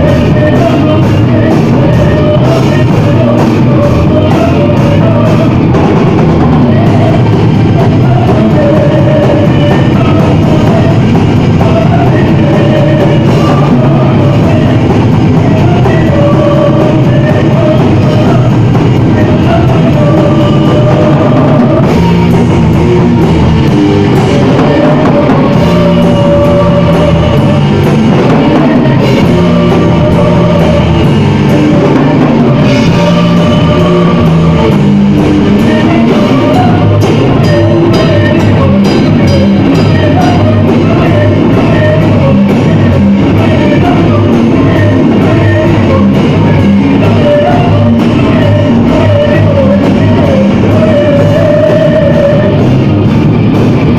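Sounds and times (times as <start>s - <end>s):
metal band playing live: 0.0s - 53.9s.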